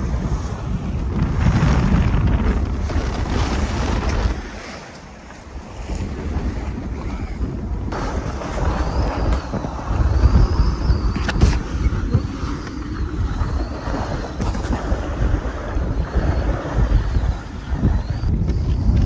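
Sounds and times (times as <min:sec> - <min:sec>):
water rushing along a boat hull: 0:00.0 - 0:19.0
wind buffeting microphone: 0:00.0 - 0:19.0.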